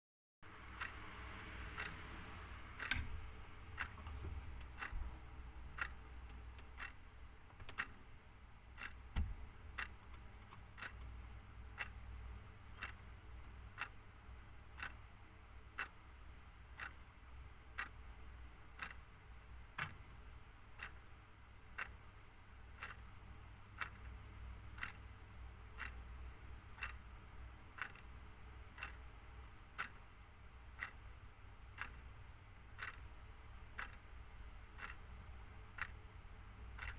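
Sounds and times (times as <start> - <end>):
clock ticking: 0.5 - 36.9.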